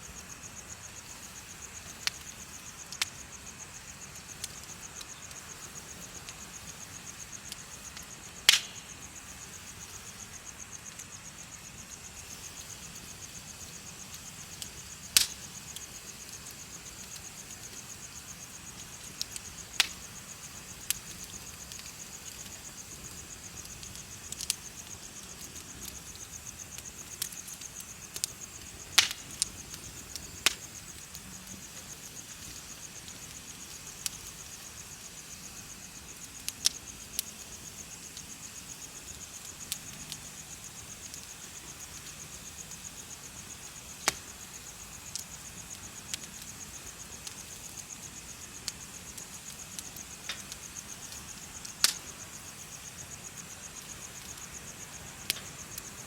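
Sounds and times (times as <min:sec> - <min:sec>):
bonfire crackling and popping: 0:00.0 - 0:56.0
insects chirping: 0:00.0 - 0:56.0.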